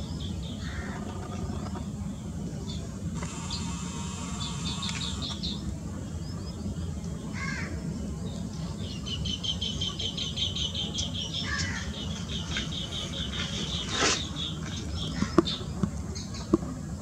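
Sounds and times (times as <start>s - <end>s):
birds chirping: 0.0s - 16.6s.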